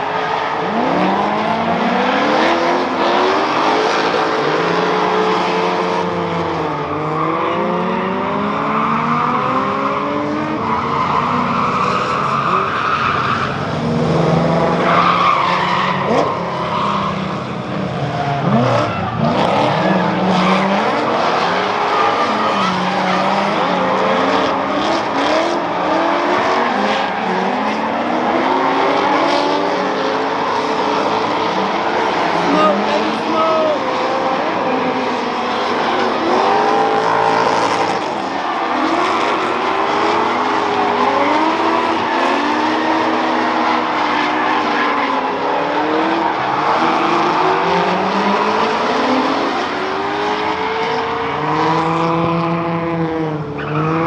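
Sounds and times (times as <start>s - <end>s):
tyres squealing and skidding: 0.0s - 52.2s, 53.4s - 54.0s
drift car engines revving: 0.0s - 54.0s.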